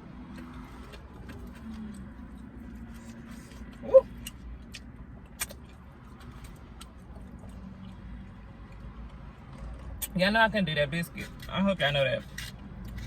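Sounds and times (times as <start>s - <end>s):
low rumble inside car: 0.0s - 13.0s.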